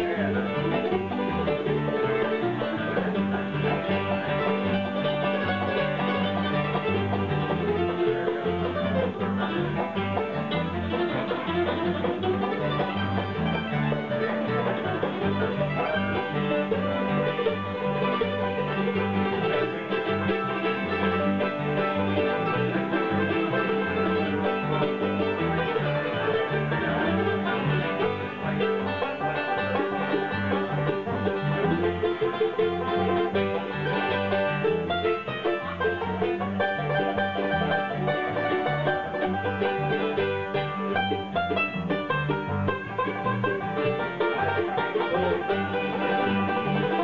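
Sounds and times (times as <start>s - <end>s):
acoustic guitar picking: 0.0s - 47.0s
electric bass line: 0.0s - 47.0s
mandolin: 0.0s - 47.0s.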